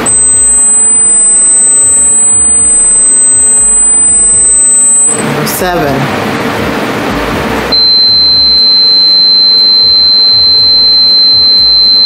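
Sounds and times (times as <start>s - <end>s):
high-pitched pure tone: 0.0s - 6.2s, 6.8s - 12.0s.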